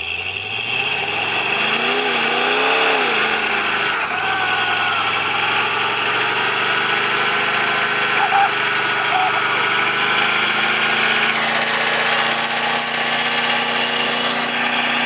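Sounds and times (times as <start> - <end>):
buggy engine revving: 0.0 - 15.0
tyres spinning in a burnout: 0.0 - 15.0.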